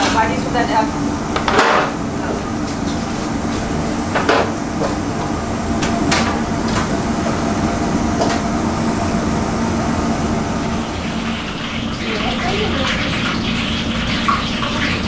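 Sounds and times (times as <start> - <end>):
kitchen mechanical hum: 0.0 - 15.0.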